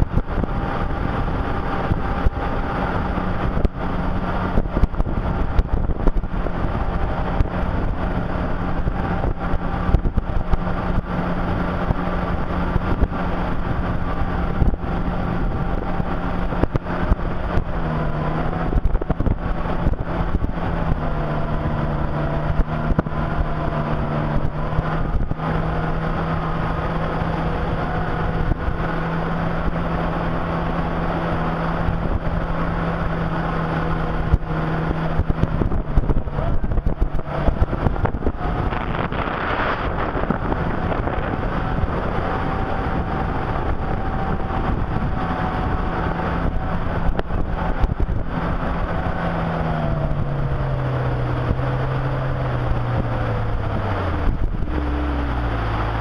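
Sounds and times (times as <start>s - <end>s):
jet ski engine running: 0.0s - 56.0s.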